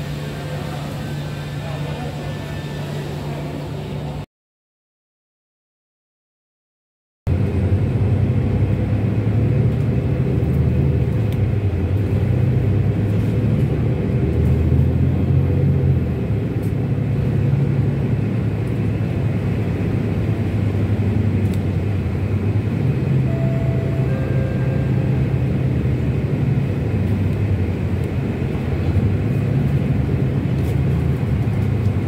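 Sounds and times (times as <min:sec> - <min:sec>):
vehicle engine and tyres rumbling: 0:00.0 - 0:04.2, 0:07.3 - 0:32.0.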